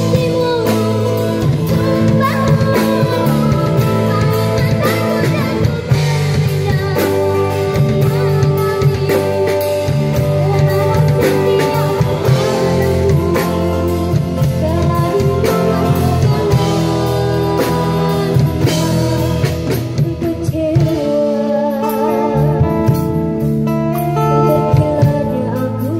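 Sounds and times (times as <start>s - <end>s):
drum kit: 0.0s - 25.9s
girl singing into microphone: 0.0s - 25.9s.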